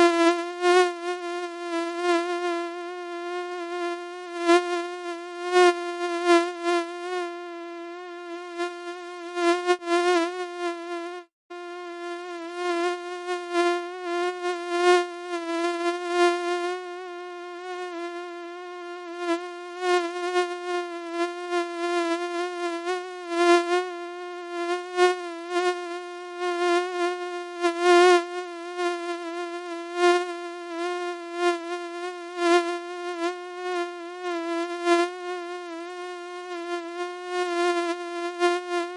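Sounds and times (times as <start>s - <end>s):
mosquito buzzing: 0.0s - 38.9s.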